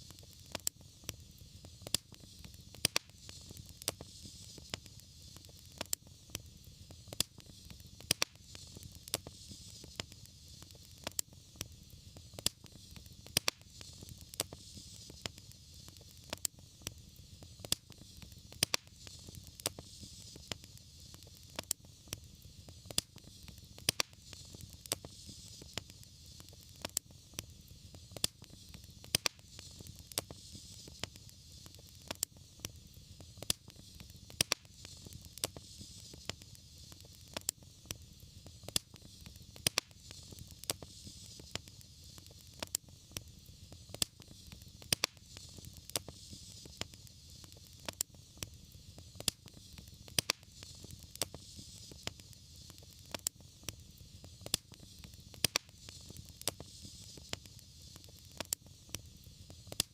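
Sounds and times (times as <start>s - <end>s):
hiss of flames: 0.0s - 59.9s
low rumble of fire: 0.0s - 59.9s
wood fire crackling: 0.0s - 59.9s.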